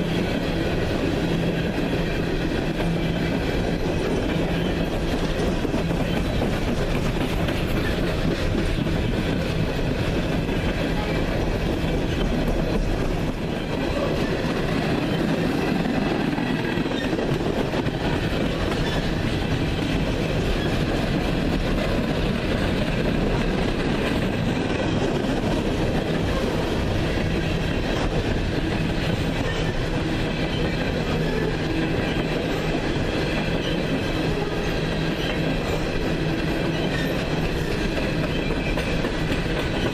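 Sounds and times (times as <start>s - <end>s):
train cars rolling past: 0.0s - 39.9s
wheel clatter on rails: 0.0s - 39.9s.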